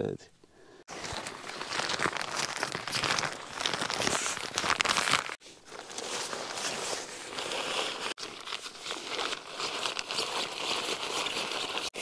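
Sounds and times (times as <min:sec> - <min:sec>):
plastic bags crinkling: 0:00.9 - 0:12.0.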